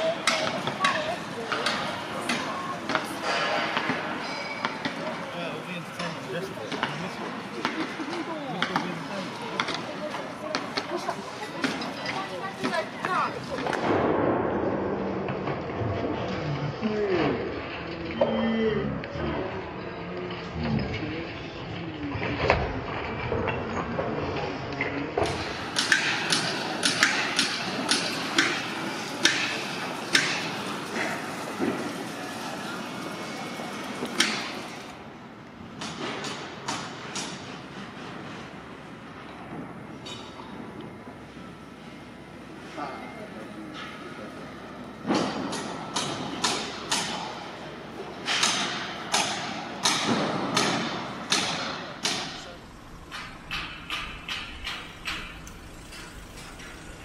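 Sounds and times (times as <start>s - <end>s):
steady background noise: 0.0s - 57.0s.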